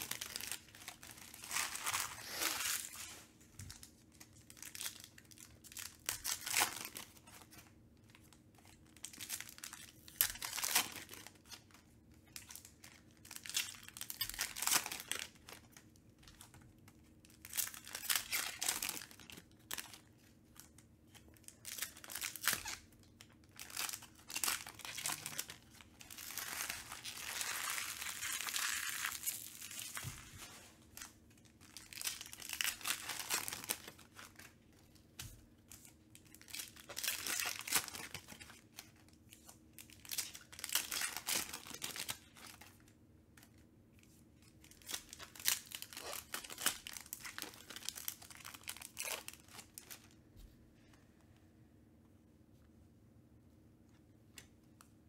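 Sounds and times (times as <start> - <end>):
foil wrappers crinkling and tearing: 0.0 - 34.7, 35.6 - 42.9, 44.5 - 50.2.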